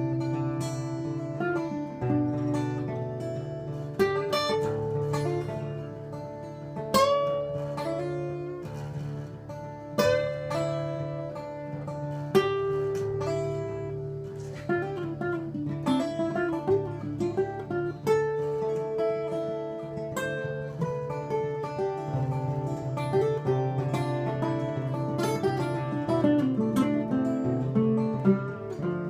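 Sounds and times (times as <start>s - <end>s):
acoustic guitars playing: 0.0s - 29.0s.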